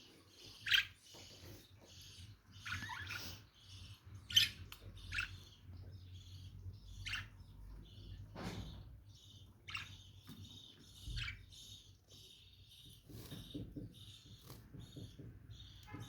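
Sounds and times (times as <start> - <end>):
birds twittering: 0.0 - 16.0.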